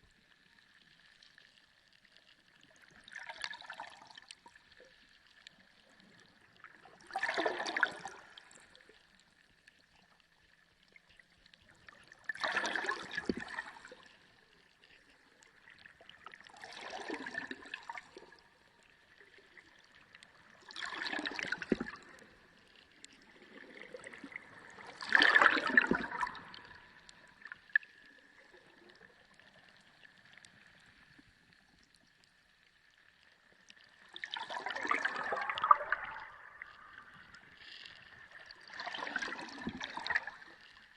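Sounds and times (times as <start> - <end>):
sea water surging and gurgling: 0.0 - 40.9.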